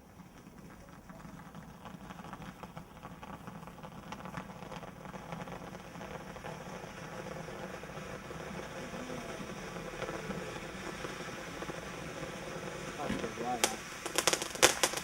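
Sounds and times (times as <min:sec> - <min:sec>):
firework crackling and hissing: 0:00.0 - 0:15.0.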